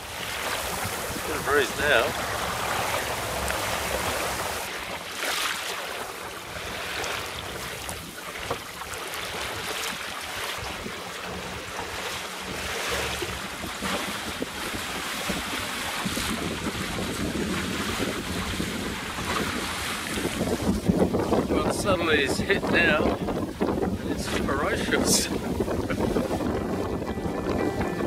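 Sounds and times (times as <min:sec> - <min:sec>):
wind buffeting microphone: 0:00.0 - 0:05.0, 0:06.4 - 0:28.0
water splashing along hull: 0:00.0 - 0:28.0.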